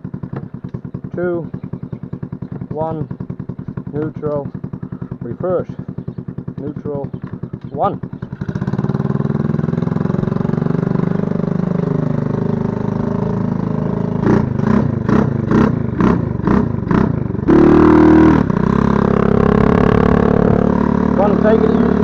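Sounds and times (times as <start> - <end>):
loud steady engine note: 0.0 - 22.0
quad engine idling and revving: 0.0 - 22.0.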